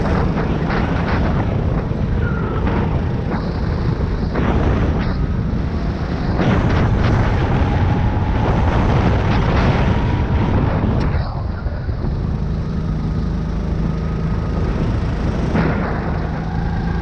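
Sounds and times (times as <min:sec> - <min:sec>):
go-kart engine running hard: 0:00.0 - 0:17.0
wind rushing over microphone: 0:00.0 - 0:17.0.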